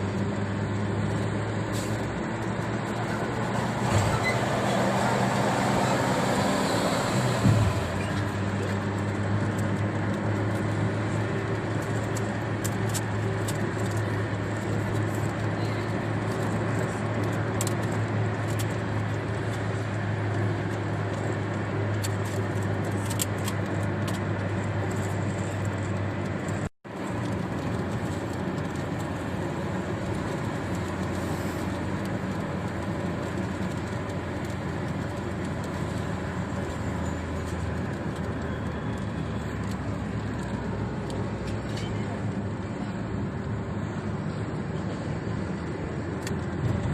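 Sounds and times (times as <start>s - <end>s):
road and engine drone: 0.0s - 46.9s
rain on car windshield: 0.1s - 46.9s.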